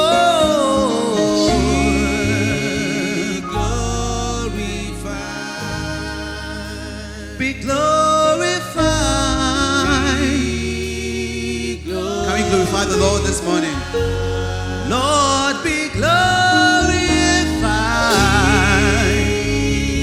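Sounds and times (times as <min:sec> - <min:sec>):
steady bass: 0:00.0 - 0:20.0
sustained instrumental chords: 0:00.0 - 0:20.0.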